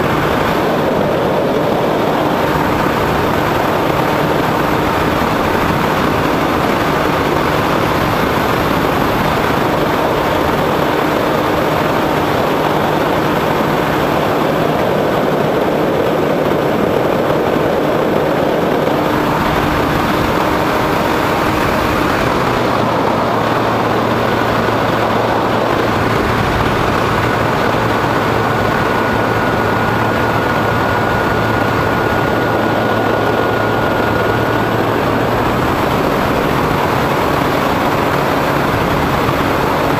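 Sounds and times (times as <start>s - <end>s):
model plane motor and propeller: 0.0s - 39.9s
wind rush: 0.0s - 39.9s.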